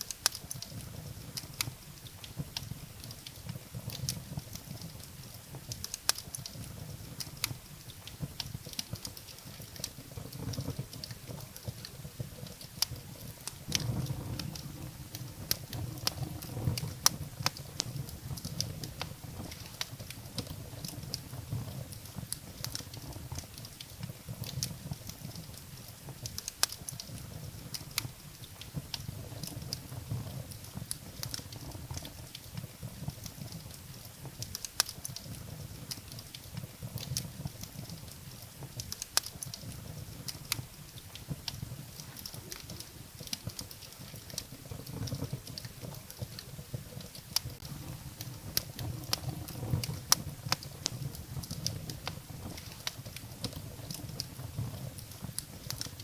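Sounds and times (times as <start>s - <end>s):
fire flames rumbling: 0.0s - 56.0s
firewood crackling and popping: 0.0s - 56.0s.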